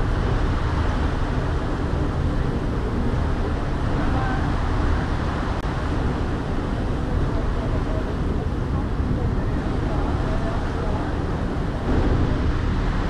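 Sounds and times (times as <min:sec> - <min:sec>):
churning wake water: 0:00.0 - 0:13.0
ferry engine rumble: 0:00.0 - 0:13.0.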